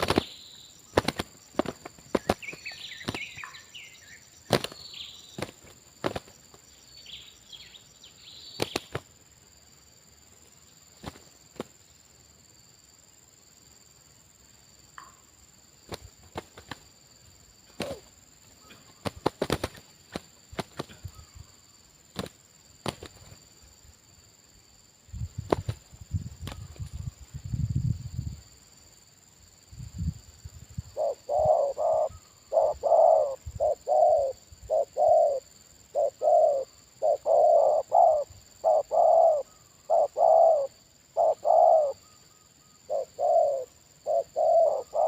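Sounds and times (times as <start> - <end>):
high drone of insects: 0.0 - 45.0.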